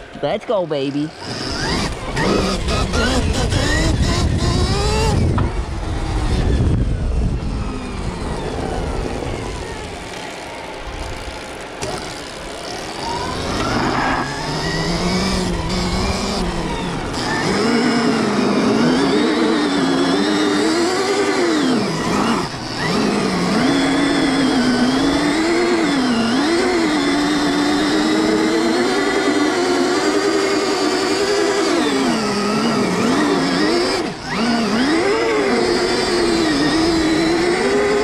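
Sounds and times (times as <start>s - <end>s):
electric motor whining: 0.9s - 38.0s.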